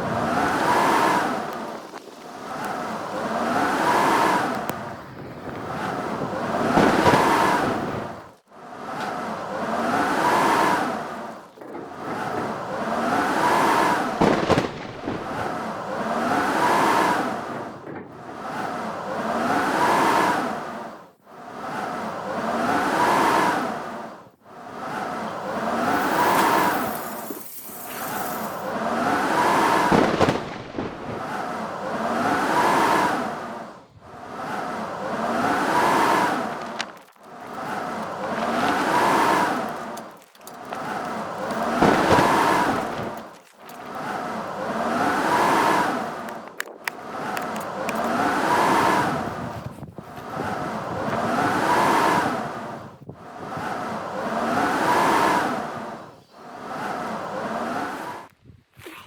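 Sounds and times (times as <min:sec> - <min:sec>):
wind howling and whistling: 0:00.0 - 0:59.0.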